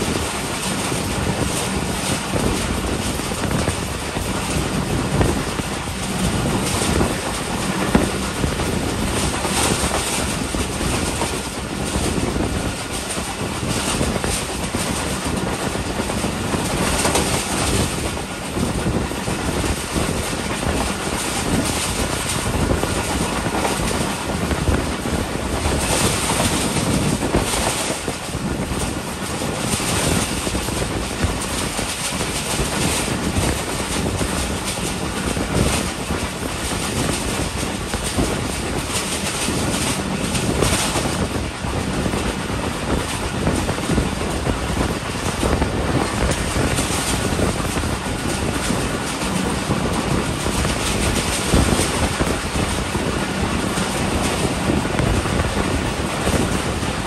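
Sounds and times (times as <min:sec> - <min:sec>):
train clattering over bridge: 0:00.0 - 0:57.0
train wheels on rails: 0:00.0 - 0:57.0
wind noise: 0:00.0 - 0:57.0.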